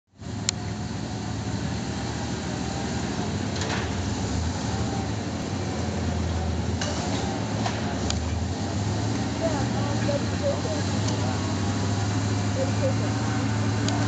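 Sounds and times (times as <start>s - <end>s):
truck engine low rumble: 0.1s - 14.0s.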